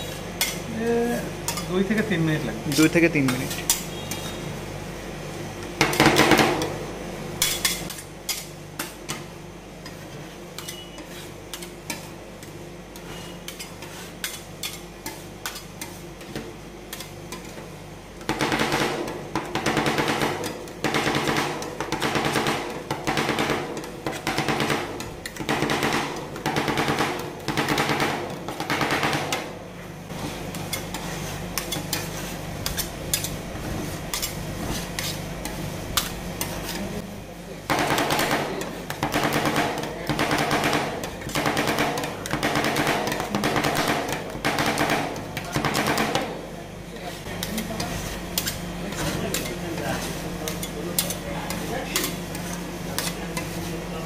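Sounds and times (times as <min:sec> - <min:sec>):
metal spatulas chopping and scraping: 0:00.0 - 0:00.7, 0:01.5 - 0:04.4, 0:07.4 - 0:29.5, 0:30.2 - 0:37.0, 0:37.7 - 0:46.4, 0:47.0 - 0:53.8.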